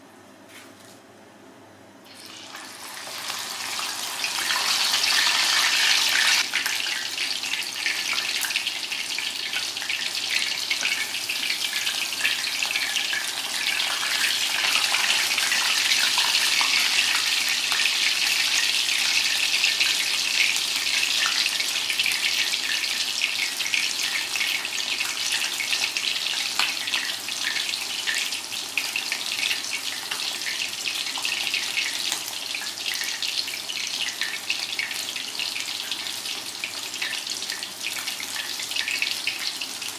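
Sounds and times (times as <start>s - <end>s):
chicken sizzling in hot oil: 2.1s - 39.9s.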